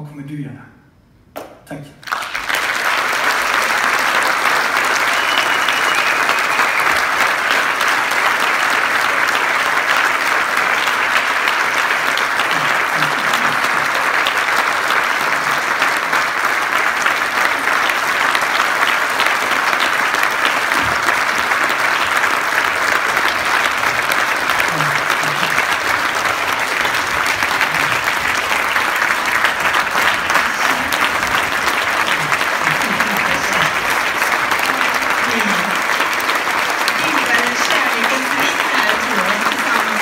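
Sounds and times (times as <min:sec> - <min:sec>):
large audience applauding: 0:02.0 - 0:40.0.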